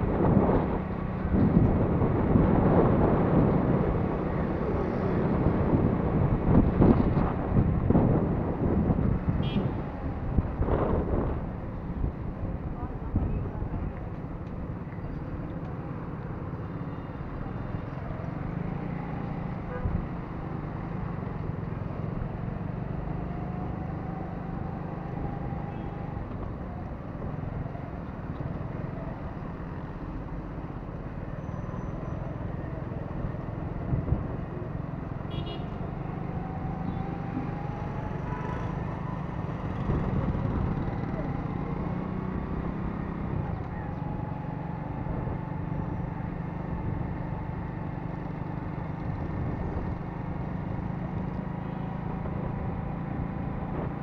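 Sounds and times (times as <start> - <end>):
motorcycle engine and road noise: 0.0 - 54.0.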